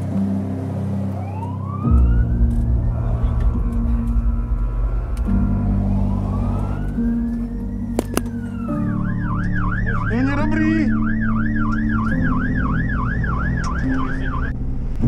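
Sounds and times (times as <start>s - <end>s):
diesel engine drone: 0.0s - 15.0s
fire engine siren: 1.0s - 14.6s.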